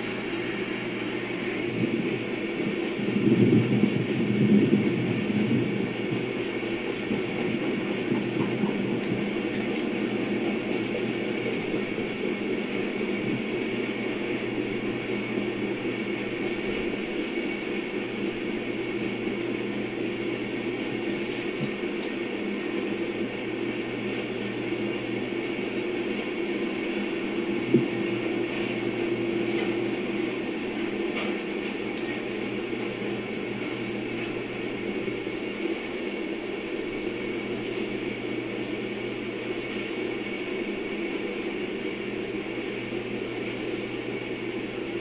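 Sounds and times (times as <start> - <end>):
train wheels on track: 0.0 - 45.0.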